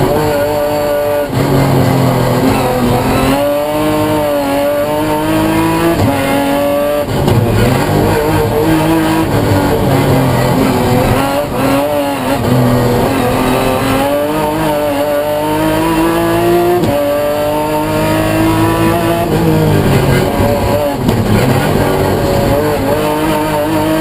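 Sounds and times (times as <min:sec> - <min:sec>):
racing engine accelerating: 0:00.0 - 0:24.0.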